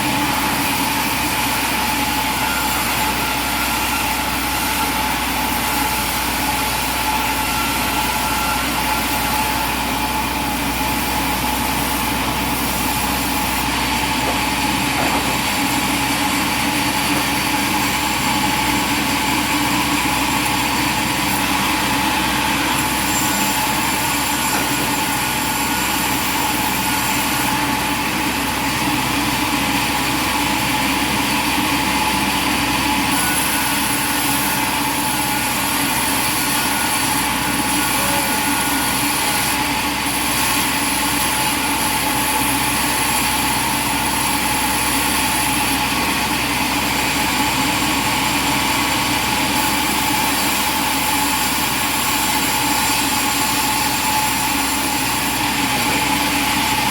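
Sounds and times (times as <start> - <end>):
sawmill machinery drone: 0.0 - 56.9.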